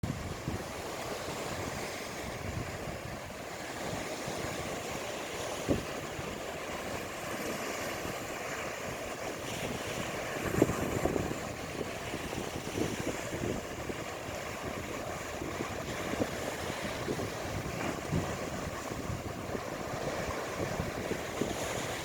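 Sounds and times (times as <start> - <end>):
sea waves washing onto beach: 0.0 - 22.0
wind buffeting microphone: 0.0 - 22.0.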